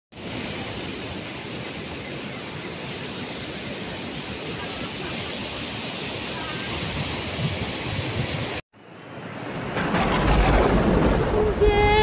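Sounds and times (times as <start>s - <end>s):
surf on beach: 0.1s - 12.0s
wind: 0.1s - 12.0s.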